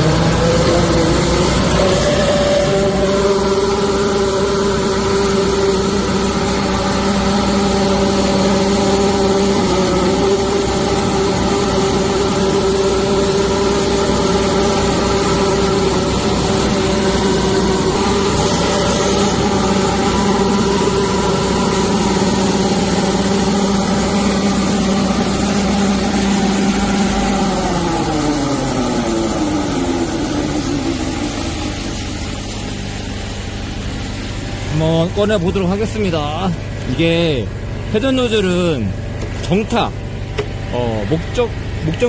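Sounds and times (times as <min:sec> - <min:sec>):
nozzle spraying inside pipe: 0:00.0 - 0:34.7
engine running: 0:00.0 - 0:42.0.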